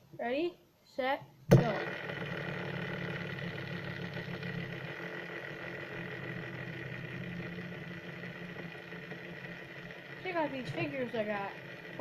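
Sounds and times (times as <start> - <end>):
fidget spinner whirring: 1.5 - 12.0.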